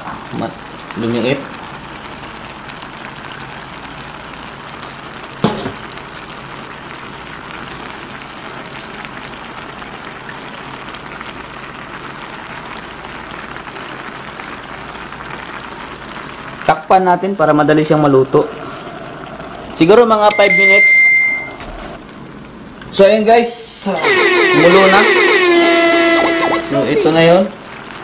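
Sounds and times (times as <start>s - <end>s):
sauce sizzling in a pan: 0.0s - 20.3s, 23.8s - 28.0s.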